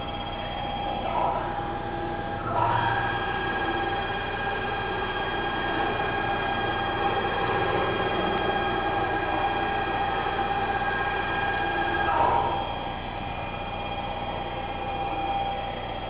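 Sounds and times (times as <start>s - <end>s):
mechanical running noise: 0.0s - 16.0s
router motors whining: 0.0s - 16.0s.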